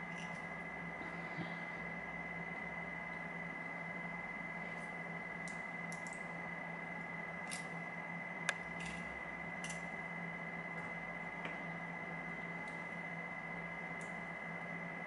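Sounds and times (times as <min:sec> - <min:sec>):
steady hum with high tone: 0:00.0 - 0:15.0.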